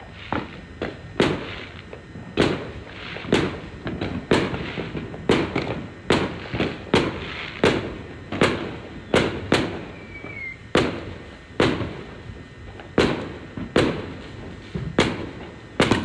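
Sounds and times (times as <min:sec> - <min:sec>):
fireworks banging: 0:00.0 - 0:16.0.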